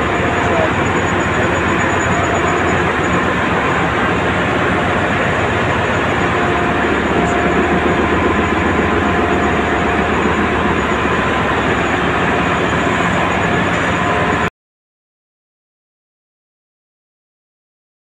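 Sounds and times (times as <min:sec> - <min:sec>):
engine room machinery din: 0:00.0 - 0:14.5
faint constant whines: 0:00.0 - 0:14.5.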